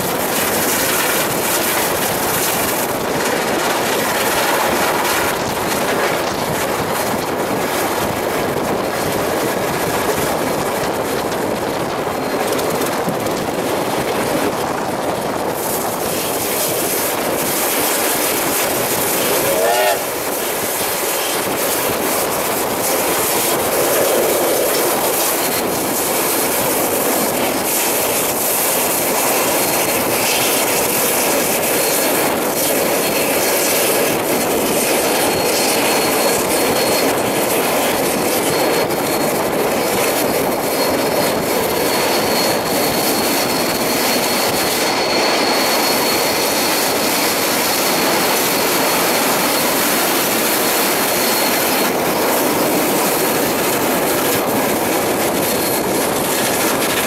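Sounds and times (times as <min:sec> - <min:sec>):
train wheels rushing on rail: 0:00.0 - 0:57.0.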